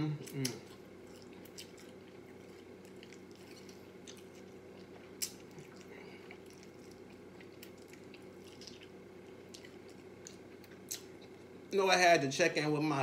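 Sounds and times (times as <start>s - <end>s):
chewing fried chicken: 0.0s - 11.7s
low steady hum: 0.0s - 13.0s.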